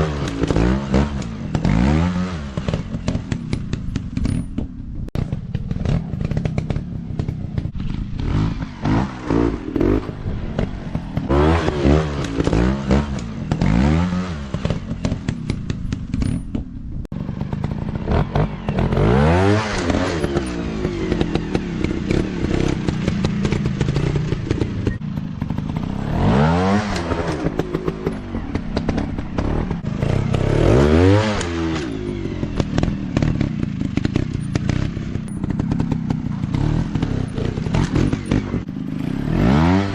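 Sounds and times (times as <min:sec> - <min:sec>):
dirt bike engines revving: 0:05.4 - 0:16.5, 0:17.2 - 0:39.9.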